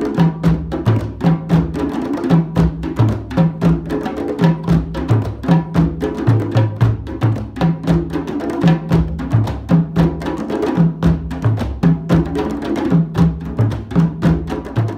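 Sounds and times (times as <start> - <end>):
percussion beat of sharp clicks: 0.0 - 14.9.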